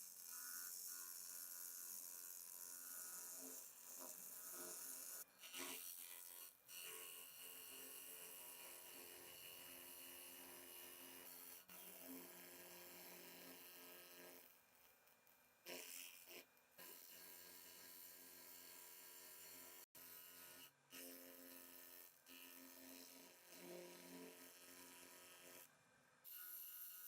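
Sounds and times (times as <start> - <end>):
small electric motor buzzing: 0.0 - 15.0, 15.6 - 27.0.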